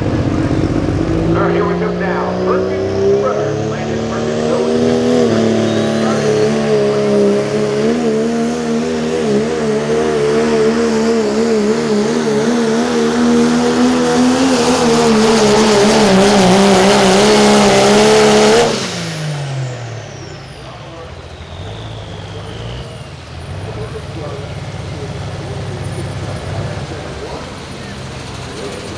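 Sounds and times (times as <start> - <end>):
diesel engine at high revs: 0.0 - 28.9.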